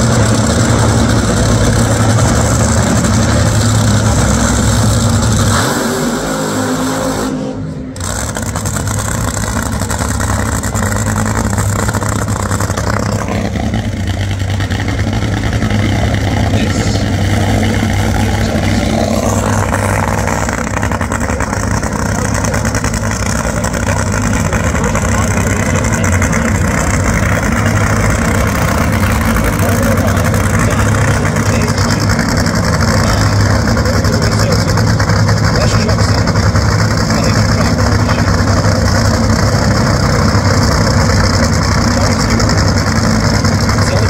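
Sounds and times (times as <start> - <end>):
dragster engine idling loudly: 0.0 - 44.0.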